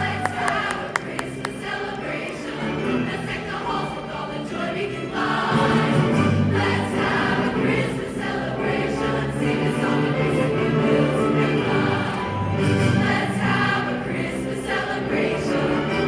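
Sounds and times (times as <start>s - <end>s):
musical accompaniment: 0.0s - 16.0s
school choir singing: 0.0s - 16.0s.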